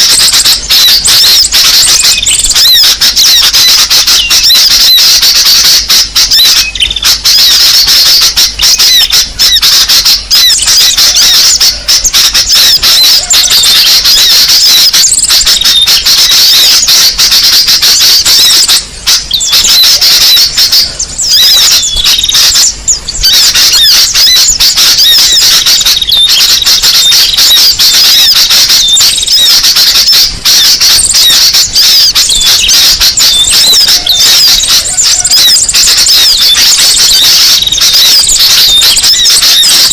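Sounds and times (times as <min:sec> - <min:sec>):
small birds chirping and twittering: 0:00.0 - 0:03.1, 0:03.8 - 0:17.0, 0:17.8 - 0:29.6, 0:30.2 - 0:39.9.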